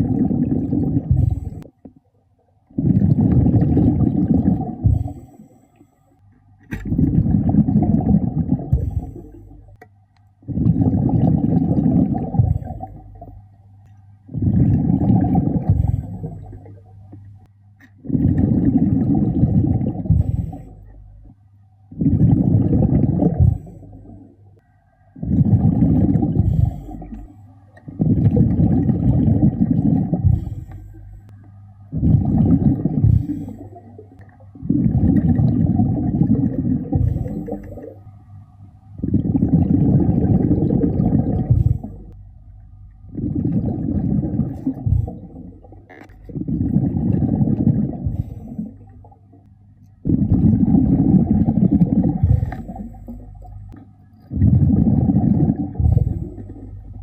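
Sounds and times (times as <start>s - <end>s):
underwater exhaled bubbles: 0.0s - 5.9s, 6.7s - 9.8s, 10.4s - 57.0s.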